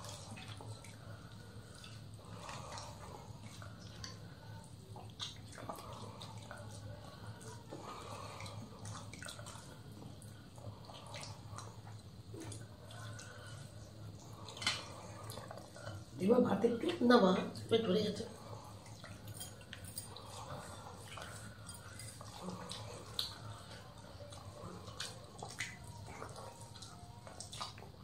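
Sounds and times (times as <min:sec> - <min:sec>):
faint low hum: 0:00.0 - 0:28.0
wet eating sounds: 0:00.0 - 0:28.0.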